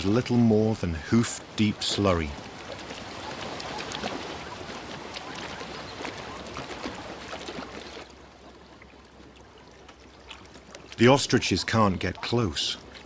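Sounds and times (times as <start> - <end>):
hooves splashing through muddy water: 0.0 - 13.0.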